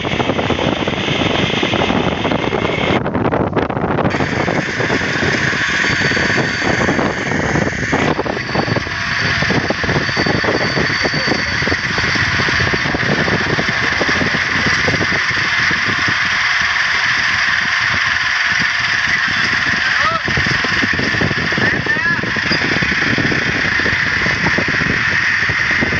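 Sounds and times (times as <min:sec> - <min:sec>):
combine harvester running: 0:00.0 - 0:25.9.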